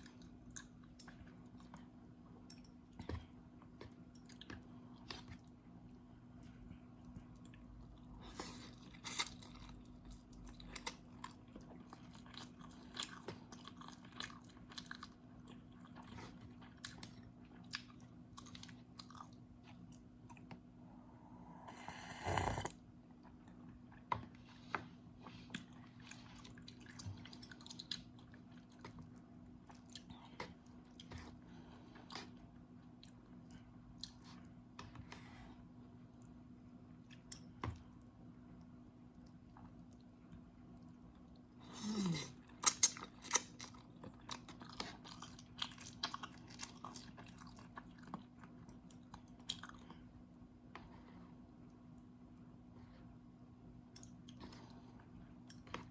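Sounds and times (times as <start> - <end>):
chewing noodles with crunches: 2.8 - 20.6, 23.2 - 34.9, 37.0 - 52.5.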